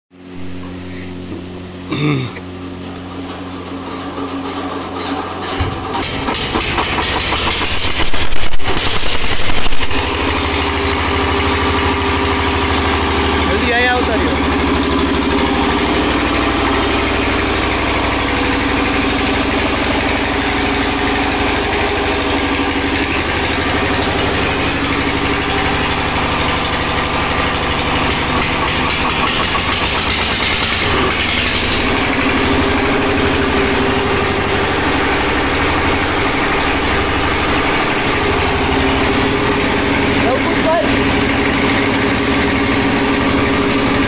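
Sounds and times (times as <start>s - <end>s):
diesel generator engine running: 0.1s - 44.0s.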